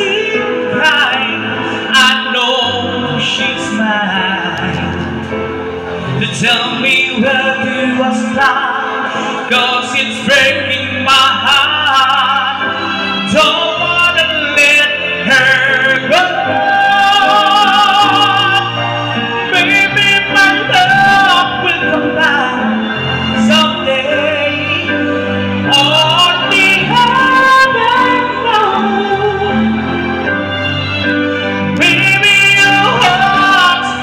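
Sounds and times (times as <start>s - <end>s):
person singing ballad: 0.0s - 34.0s.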